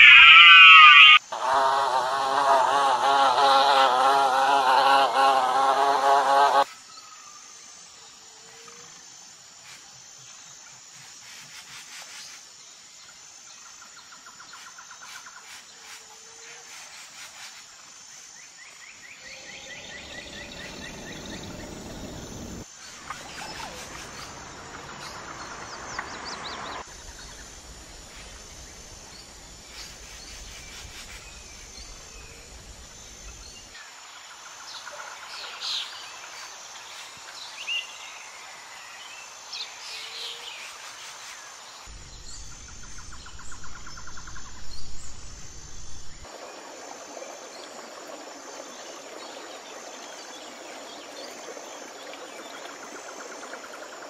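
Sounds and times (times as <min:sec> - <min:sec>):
high insect hum: 0:00.0 - 0:54.0.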